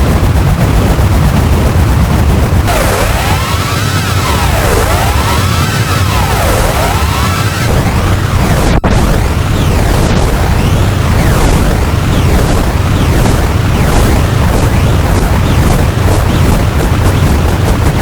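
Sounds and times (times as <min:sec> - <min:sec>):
low rumble: 0:00.0 - 0:18.0
synthesizer noise wall: 0:02.6 - 0:18.0.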